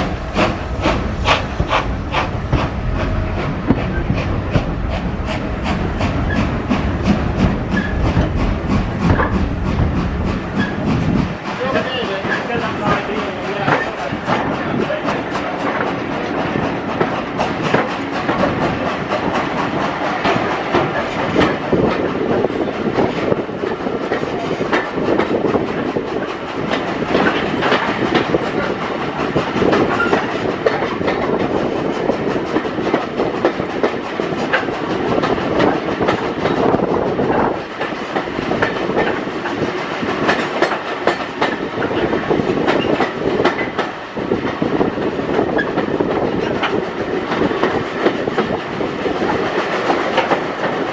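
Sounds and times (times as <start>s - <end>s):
train coach rolling rumble: 0.0s - 50.9s
wheels clicking over rail joints: 5.9s - 50.9s.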